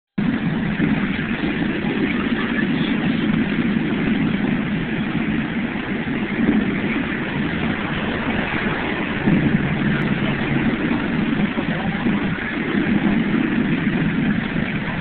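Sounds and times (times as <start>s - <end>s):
low rumble: 0.2s - 15.0s
roar of rushing water jets: 0.2s - 15.0s.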